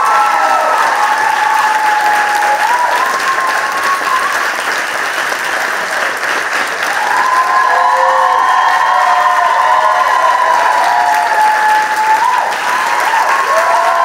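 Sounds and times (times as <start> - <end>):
long held cheer: 0.0 - 5.0, 5.6 - 14.0
audience applauding: 0.0 - 14.0.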